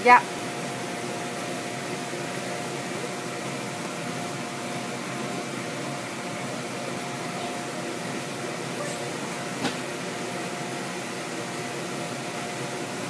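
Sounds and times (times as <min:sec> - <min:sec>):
electric air blower running: 0:00.0 - 0:13.0.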